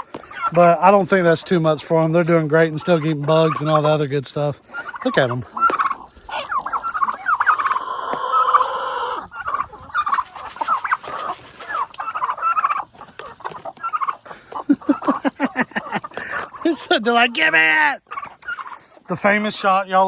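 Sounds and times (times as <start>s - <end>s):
chickens and turkeys calling: 0.0s - 19.7s.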